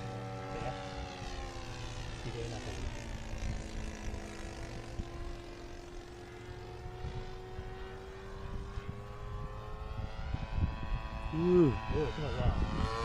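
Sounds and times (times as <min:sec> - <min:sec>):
model airplane engine droning: 0:00.0 - 0:13.0.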